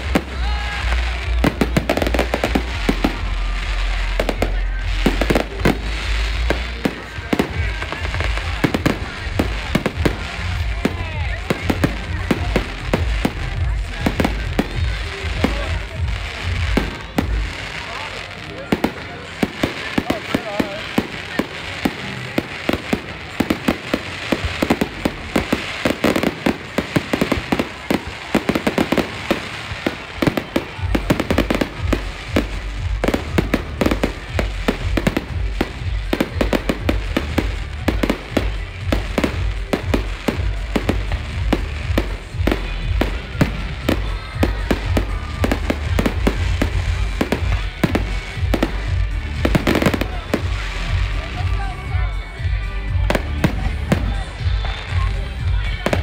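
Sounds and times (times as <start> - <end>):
fireworks bursting with crackling: 0.0 - 56.0.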